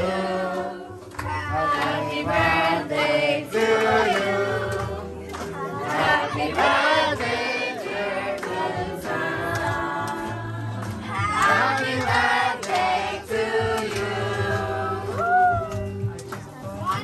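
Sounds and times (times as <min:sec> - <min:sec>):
several voices singing: 0:00.0 - 0:15.6.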